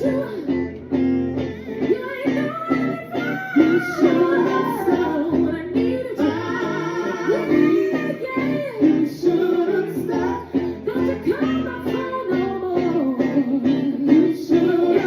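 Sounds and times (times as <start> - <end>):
guitar accompaniment: 0.0 - 15.0
person singing long notes: 1.4 - 15.0.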